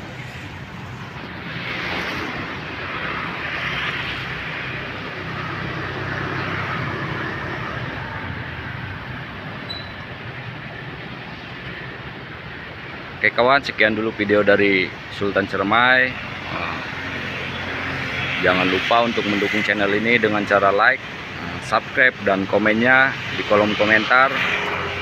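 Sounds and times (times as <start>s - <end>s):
motorbike and car engines passing: 0.0s - 25.0s.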